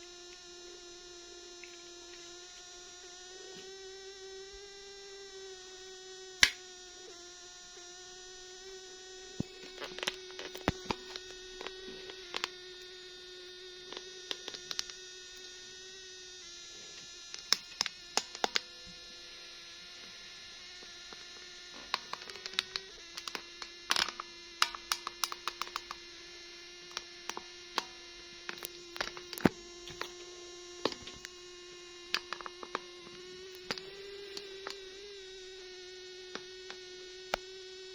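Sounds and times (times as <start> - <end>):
steady buzzing hum: 0.0 - 37.9.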